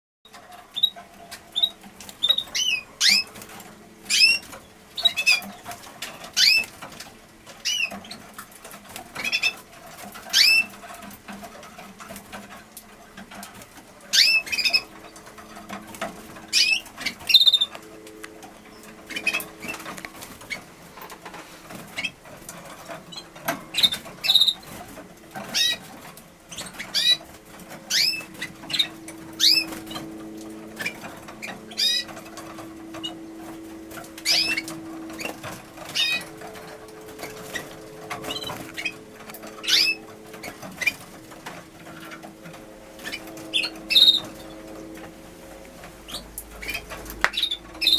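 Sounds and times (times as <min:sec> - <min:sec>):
birds rustling in a cage: 0:00.3 - 0:47.9
canaries chirping: 0:00.3 - 0:47.9.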